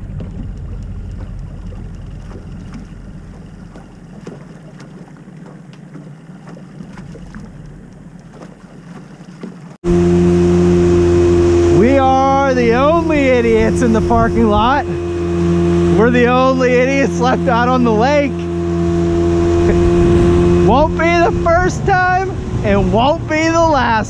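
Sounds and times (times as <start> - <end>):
low rumble: 0.0 - 5.4, 6.8 - 8.9, 9.8 - 24.0
boat engine drone: 0.0 - 24.0.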